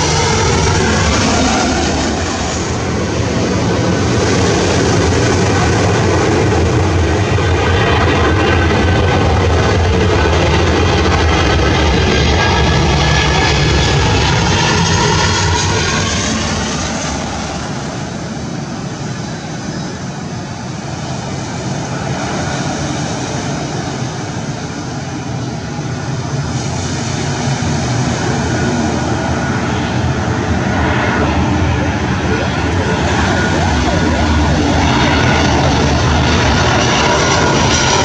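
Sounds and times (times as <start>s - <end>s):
jet engine rumble and whine: 0.0s - 38.0s.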